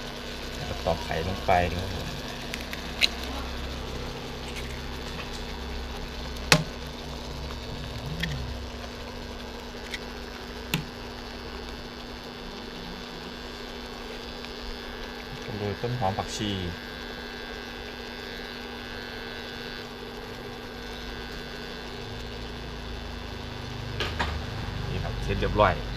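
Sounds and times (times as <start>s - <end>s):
electric hob hum: 0.0s - 25.9s
porridge bubbling: 0.0s - 25.9s.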